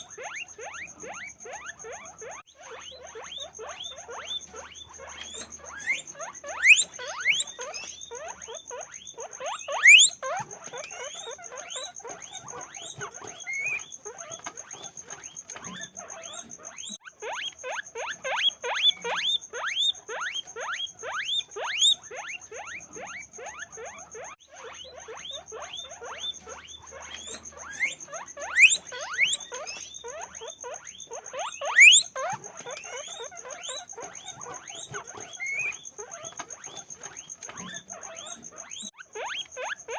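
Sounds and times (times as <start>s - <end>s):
guinea pigs squeaking: 0.0s - 39.9s.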